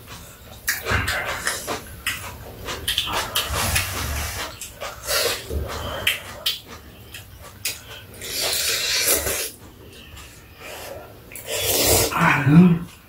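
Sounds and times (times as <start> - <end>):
slurping noodles: 0.6 - 12.3.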